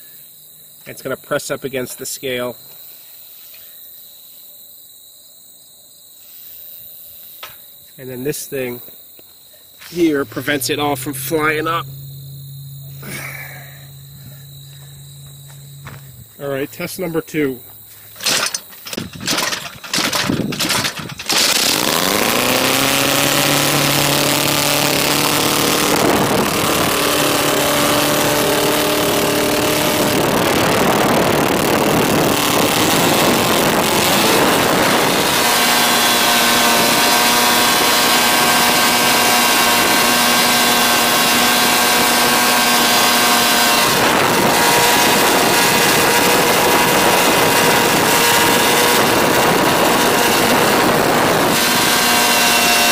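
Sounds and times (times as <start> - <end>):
gas engine revving: 9.8 - 52.9.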